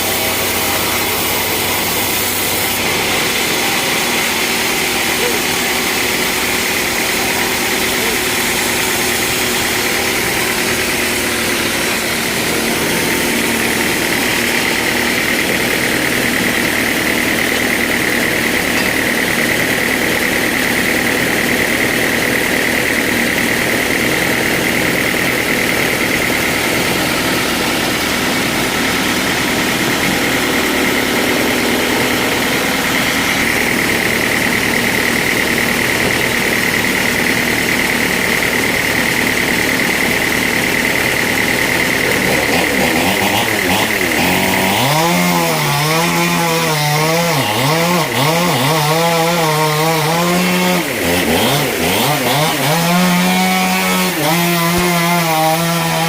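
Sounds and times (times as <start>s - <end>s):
chainsaw running at high revs: 0.0s - 56.0s.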